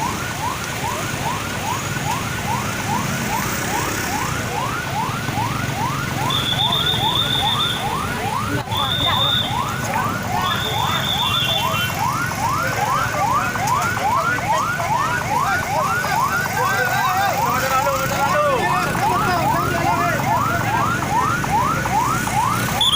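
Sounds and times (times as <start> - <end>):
emergency siren wailing: 0.0 - 22.9
low hum of traffic: 0.0 - 22.9.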